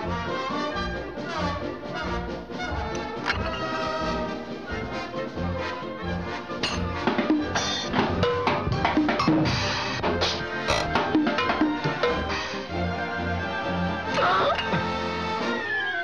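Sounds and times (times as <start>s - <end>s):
cartoon music with drums: 0.0s - 16.0s.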